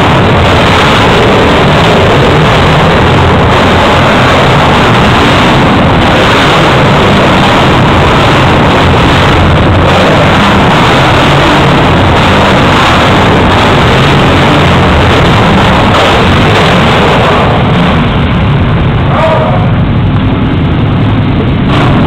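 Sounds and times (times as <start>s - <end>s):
atv engines running loud: 0.0s - 22.0s.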